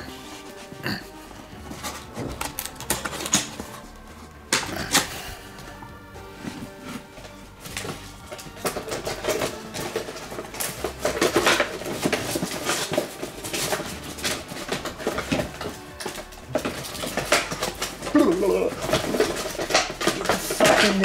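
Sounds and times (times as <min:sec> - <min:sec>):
packaging rustling and scraping: 0:00.0 - 0:21.0.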